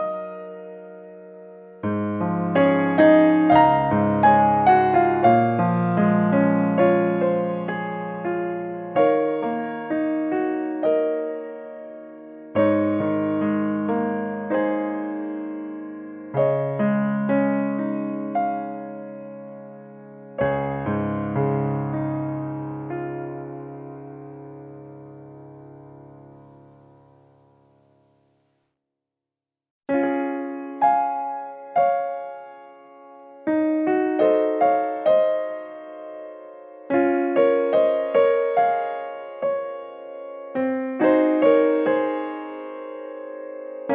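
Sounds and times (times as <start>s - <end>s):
gentle solo piano: 0.0s - 28.4s, 29.9s - 43.9s.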